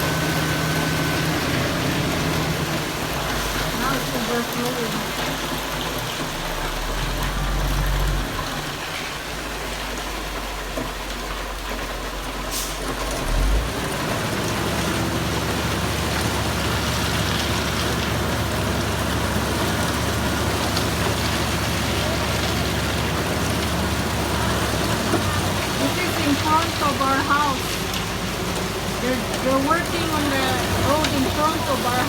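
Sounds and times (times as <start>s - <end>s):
machinery engine running: 0.0s - 10.8s, 12.5s - 32.0s
wet concrete pouring hiss: 0.0s - 32.0s.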